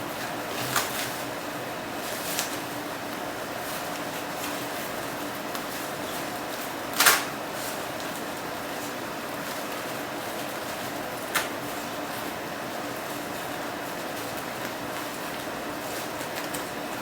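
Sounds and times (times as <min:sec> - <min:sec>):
fan-like hum: 0:00.0 - 0:17.0.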